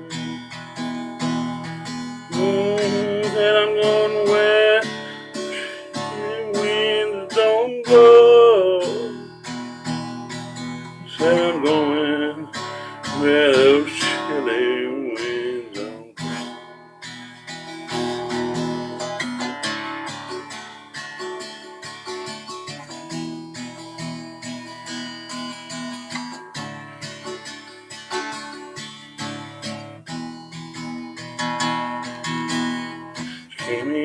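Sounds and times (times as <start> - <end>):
acoustic guitar plucked and strummed: 0.0 - 34.0.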